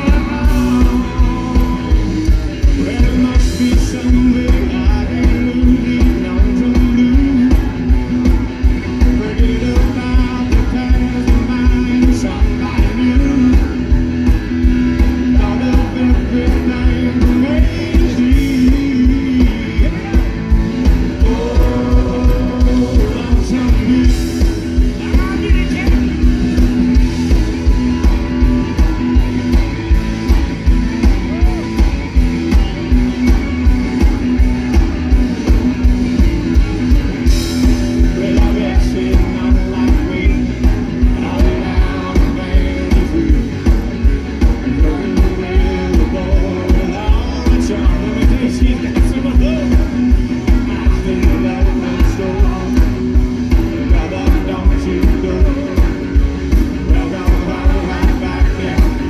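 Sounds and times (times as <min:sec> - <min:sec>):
lead singer singing: 0:00.0 - 0:59.0
live rock band playing: 0:00.0 - 0:59.0.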